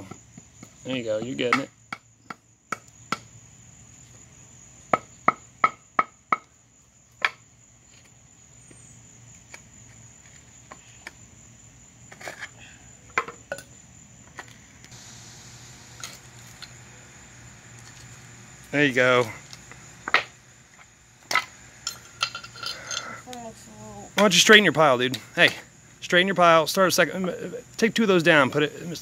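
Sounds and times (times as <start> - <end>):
crickets droning: 0.0 - 29.0.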